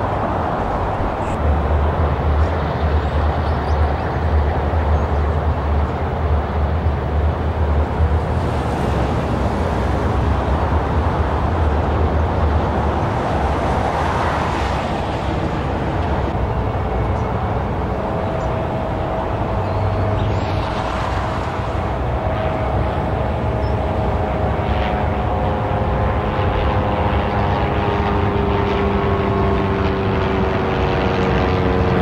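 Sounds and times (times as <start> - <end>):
freeway traffic: 0.0 - 32.0.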